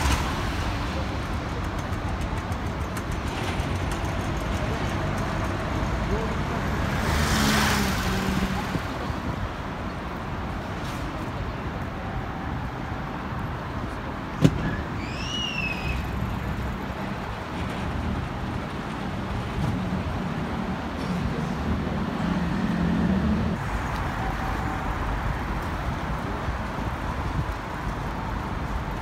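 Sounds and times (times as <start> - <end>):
city road traffic: 0.0 - 29.0.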